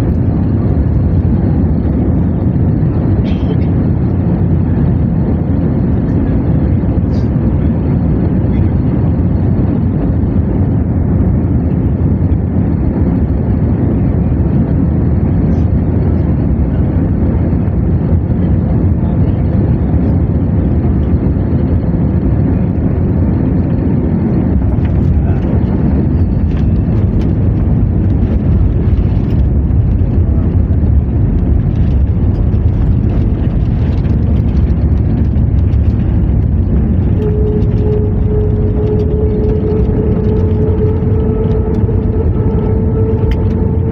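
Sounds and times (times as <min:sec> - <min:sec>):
airplane low rumble: 0:00.0 - 0:43.9.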